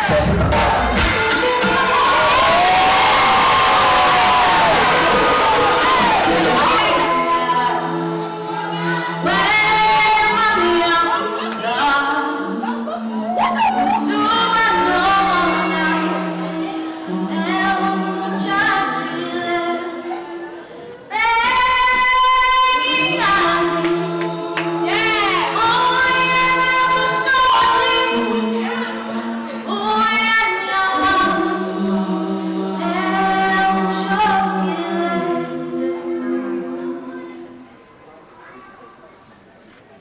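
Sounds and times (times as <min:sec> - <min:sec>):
group singing a cappella: 0:00.0 - 0:37.7.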